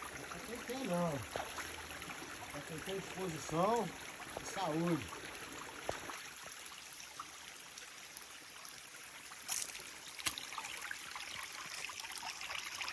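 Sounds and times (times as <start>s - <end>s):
faint trickle of water: 0.0s - 12.9s.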